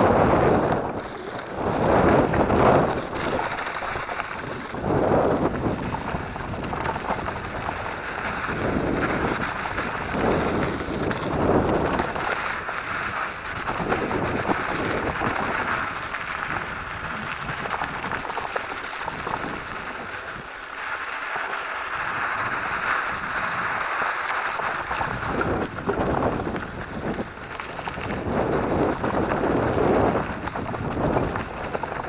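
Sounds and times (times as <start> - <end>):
wind buffeting microphone: 0.0 - 21.1, 21.8 - 32.0
bike tyres crunching on gravel: 0.0 - 32.0.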